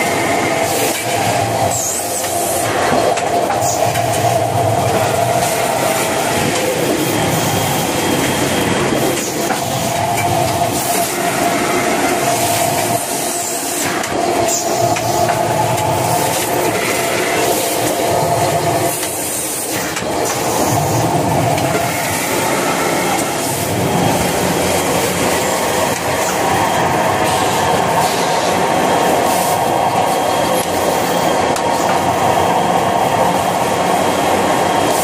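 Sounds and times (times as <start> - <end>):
machinery clattering: 0.0 - 35.0.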